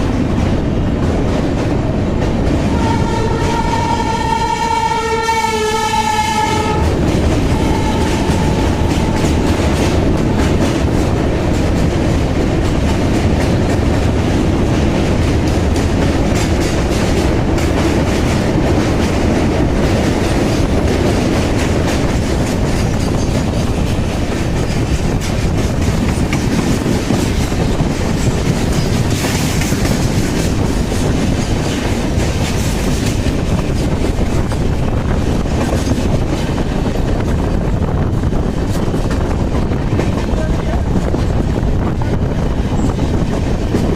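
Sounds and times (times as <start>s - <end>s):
train rumble: 0.0s - 43.9s
wheels clicking over rail joints: 6.7s - 43.9s.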